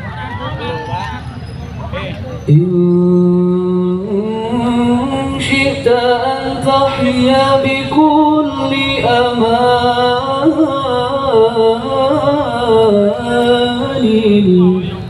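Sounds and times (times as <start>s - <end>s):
man singing devotional song: 2.5s - 15.0s.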